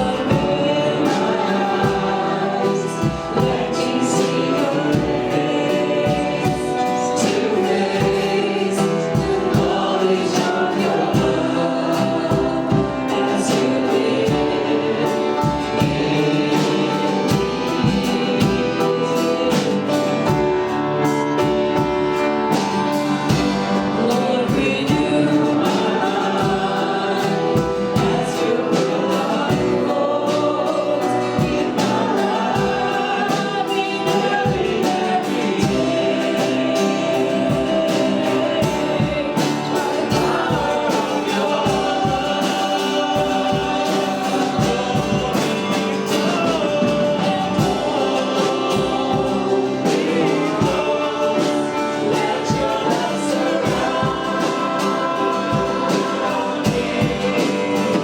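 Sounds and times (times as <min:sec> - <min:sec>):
band playing with steady beat: 0:00.0 - 0:58.0
voices singing together: 0:00.0 - 0:58.0.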